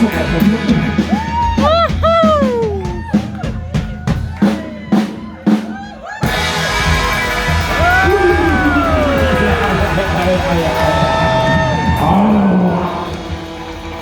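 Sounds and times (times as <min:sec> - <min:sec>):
electric guitar: 0:00.0 - 0:04.6, 0:06.0 - 0:14.0
drum hits: 0:00.0 - 0:14.0
rock band playing loudly: 0:00.0 - 0:14.0.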